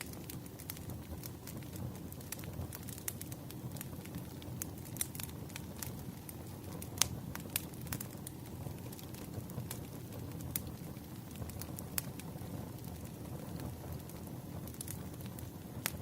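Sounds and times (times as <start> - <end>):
campfire crackling and popping: 0.0 - 16.0
low rush of burning wood: 0.0 - 16.0.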